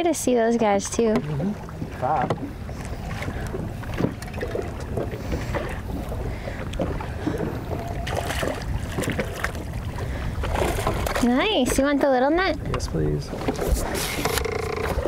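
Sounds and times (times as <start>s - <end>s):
waves lapping against boat hull: 0.0s - 15.0s
wind rumbling on microphone: 0.6s - 15.0s.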